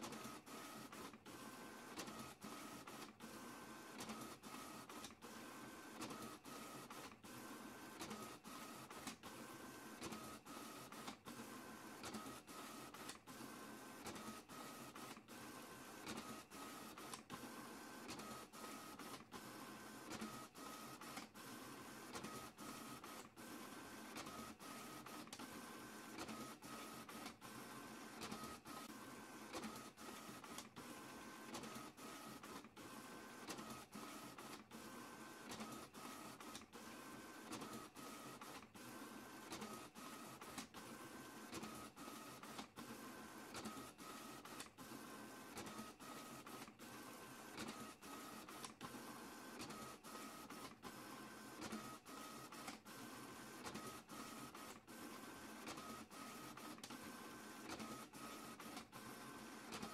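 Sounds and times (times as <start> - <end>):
printer mechanical whir: 0.0 - 59.9.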